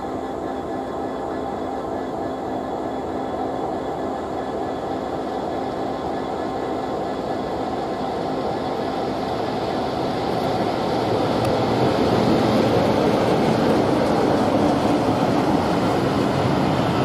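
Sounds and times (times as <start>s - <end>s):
diesel train running by: 0.0s - 17.0s.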